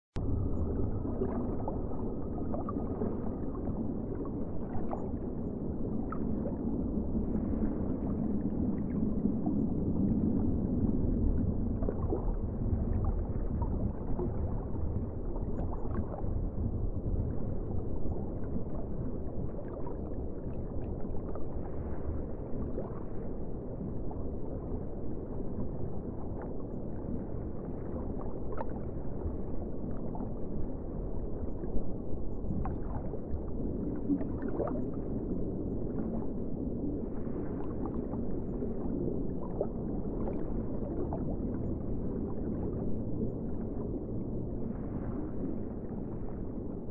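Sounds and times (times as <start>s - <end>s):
muffled underwater rumble: 0.1s - 46.9s.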